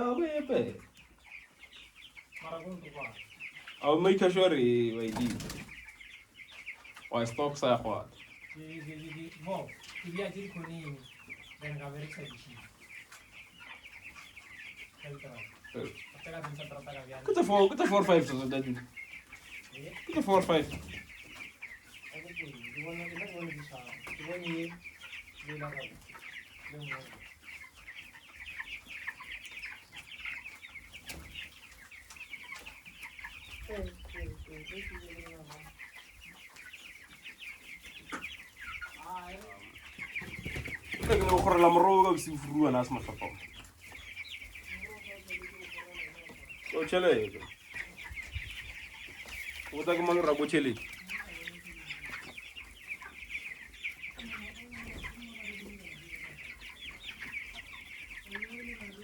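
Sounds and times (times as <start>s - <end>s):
chickens peeping and clucking: 0.0s - 59.0s.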